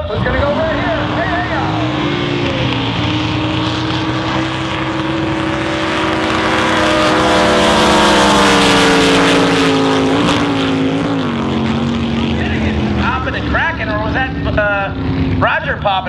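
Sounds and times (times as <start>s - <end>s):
racing boat engines at full throttle: 0.0s - 16.0s.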